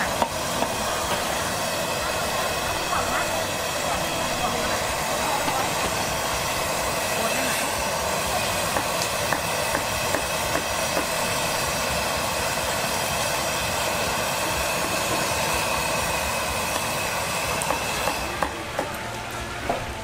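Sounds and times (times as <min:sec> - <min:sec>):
squid deep-frying in hot oil: 0:00.0 - 0:20.0.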